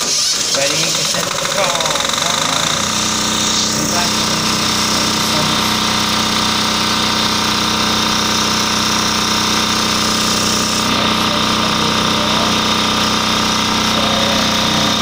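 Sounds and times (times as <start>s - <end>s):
diesel generator running: 0.0s - 15.0s.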